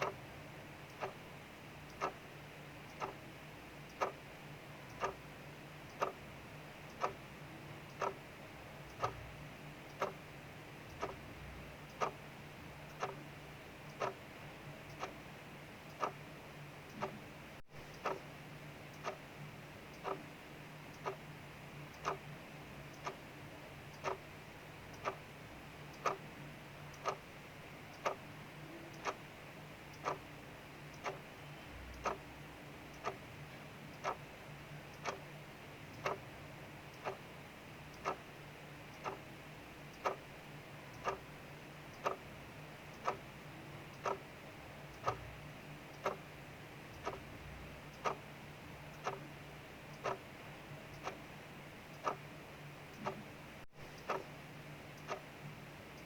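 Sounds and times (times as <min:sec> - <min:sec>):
clock ticking: 0:00.0 - 0:56.0
faint low hum: 0:00.0 - 0:56.0.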